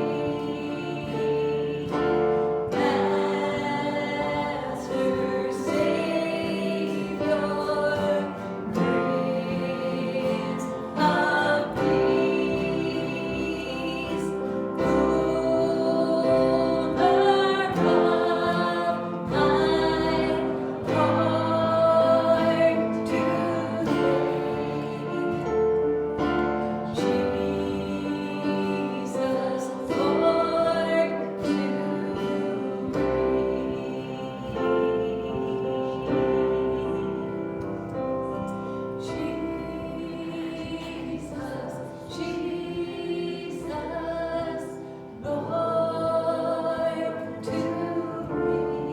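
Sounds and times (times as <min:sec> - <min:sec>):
instrumental accompaniment: 0:00.0 - 0:48.9
voices singing gospel song: 0:00.0 - 0:48.9.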